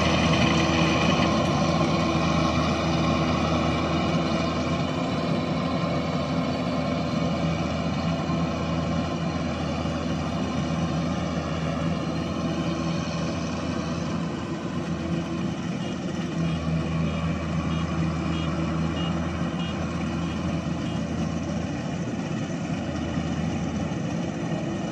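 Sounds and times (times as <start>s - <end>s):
combine harvester engine running: 0.0s - 24.9s.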